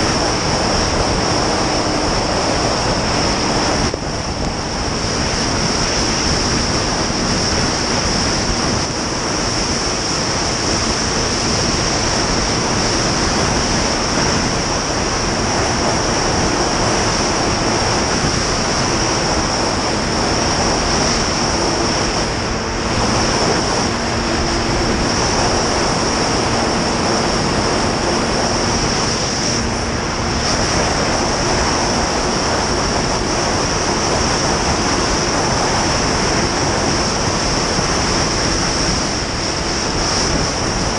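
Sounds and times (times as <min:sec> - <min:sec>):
faint snowmobile engine drone: 0:00.0 - 0:40.9
wind rushing on microphone: 0:00.0 - 0:40.9.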